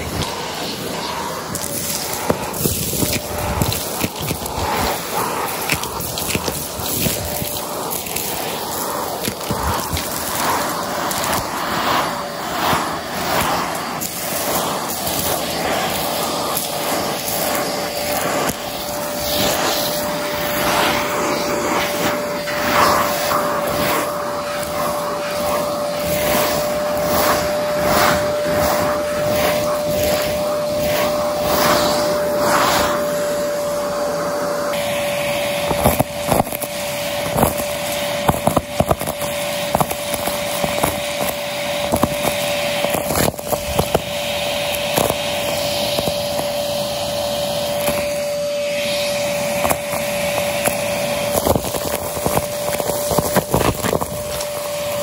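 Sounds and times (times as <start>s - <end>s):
brush attachment strokes on carpet: 0.0s - 55.0s
debris rattling up vacuum hose: 0.0s - 55.0s
vacuum cleaner whine: 0.0s - 55.0s.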